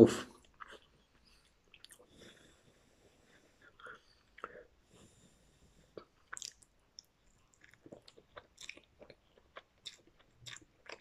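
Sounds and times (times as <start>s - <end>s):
person chewing noodles: 0.4s - 4.8s, 5.5s - 11.0s.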